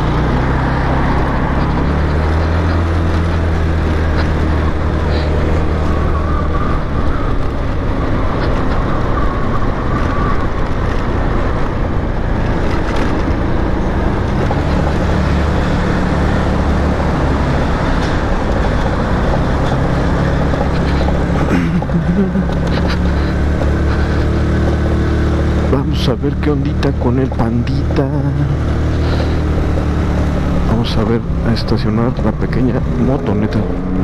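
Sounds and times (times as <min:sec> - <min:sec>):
scooter engine running: 0:00.0 - 0:34.0
wind and road noise: 0:00.0 - 0:34.0.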